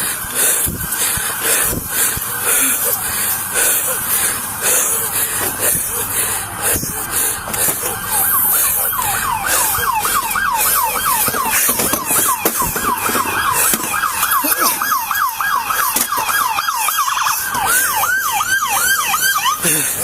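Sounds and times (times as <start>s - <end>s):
emergency siren yelping: 0.0s - 20.0s.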